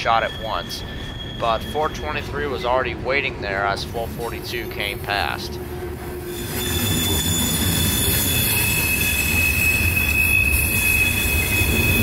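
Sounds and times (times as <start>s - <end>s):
high wheel squeal: 0.0s - 2.8s, 4.2s - 12.0s
train wheels rumbling on rail: 0.0s - 12.0s.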